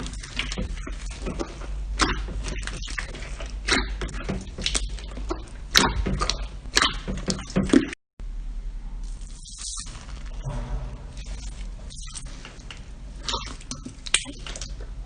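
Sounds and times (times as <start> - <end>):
slime squelching: 0.0 - 7.9, 9.0 - 10.5, 11.2 - 15.0.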